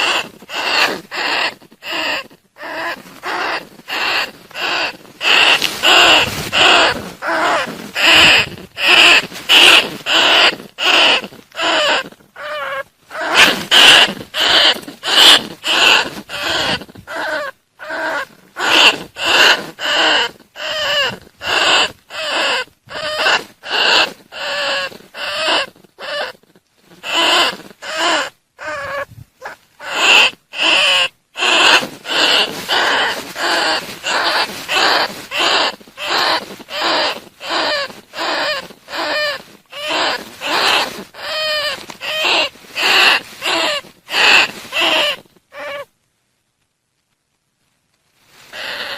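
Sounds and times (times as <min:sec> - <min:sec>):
rat squeaking: 0:00.0 - 0:45.9, 0:48.6 - 0:48.9.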